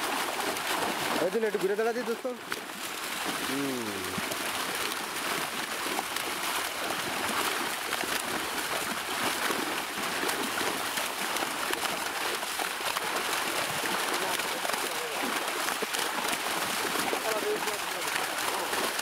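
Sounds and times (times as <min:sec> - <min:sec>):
fish slapping water surface: 0:00.0 - 0:19.0
water splashing and churning: 0:00.0 - 0:19.0.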